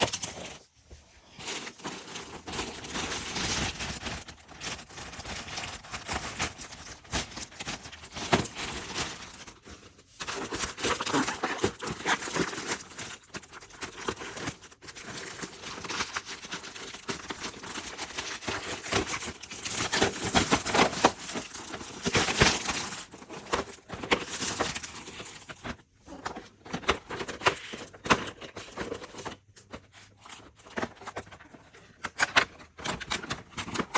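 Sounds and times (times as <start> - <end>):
packaging crinkling rustle: 0.0 - 33.9.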